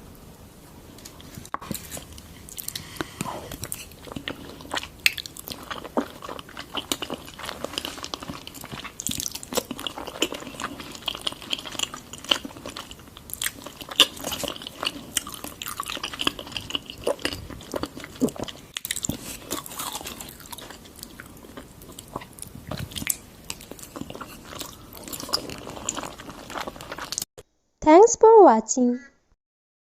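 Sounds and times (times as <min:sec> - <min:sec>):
wet chewing and biting: 0:01.6 - 0:27.3.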